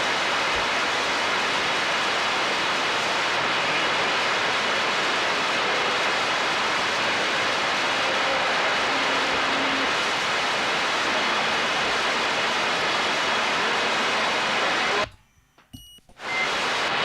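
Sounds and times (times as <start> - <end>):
radio static hiss: 0.0 - 15.2, 16.2 - 17.0
faint radio tones: 3.2 - 17.0.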